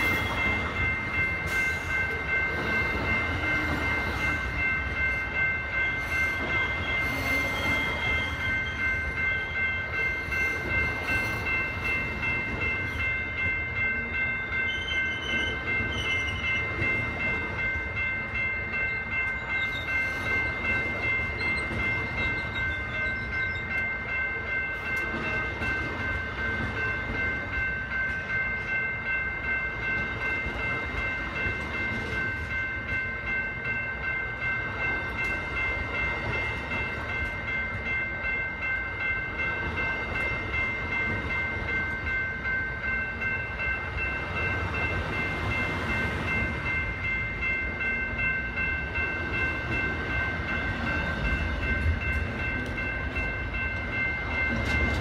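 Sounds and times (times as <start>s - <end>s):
crossing bell ringing: 0.0s - 55.0s
train wheels rumbling on rail: 0.0s - 55.0s.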